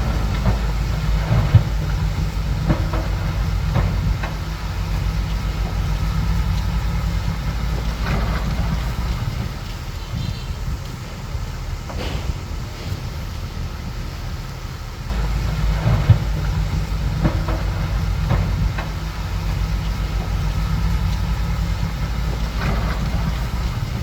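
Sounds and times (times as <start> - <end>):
diesel engine under load: 0.0 - 24.0
steel tracks clanking: 0.0 - 24.0.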